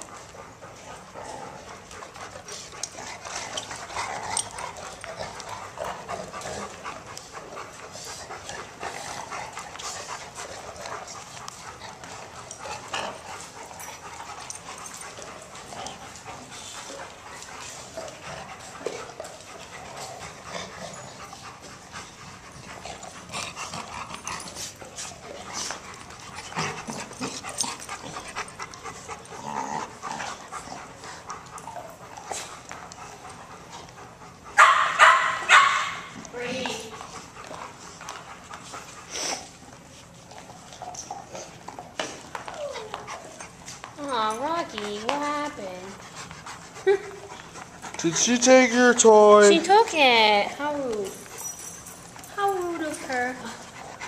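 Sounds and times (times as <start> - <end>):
clicks and scuffles of dogs playing: 0.0 - 54.0
dogs panting: 0.0 - 54.0.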